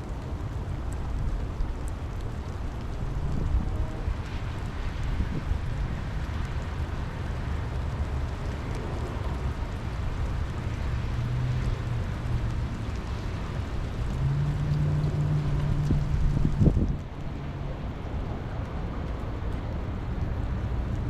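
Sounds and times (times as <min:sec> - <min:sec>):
rain and wind noise: 0:00.0 - 0:21.0.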